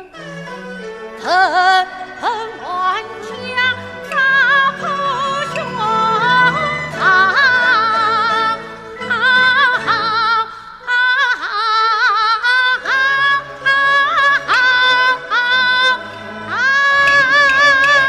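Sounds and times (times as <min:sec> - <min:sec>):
instrumental accompaniment: 0:00.0 - 0:10.6, 0:12.7 - 0:18.0
woman singing opera with vibrato: 0:00.0 - 0:18.0.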